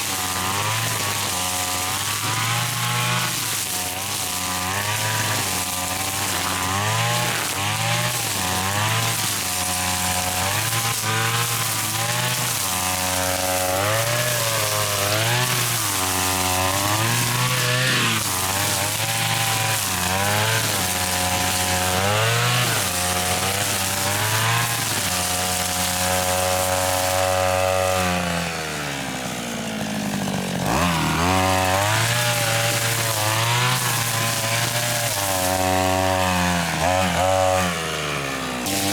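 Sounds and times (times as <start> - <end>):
grass cutter engine revving: 0.0 - 38.9.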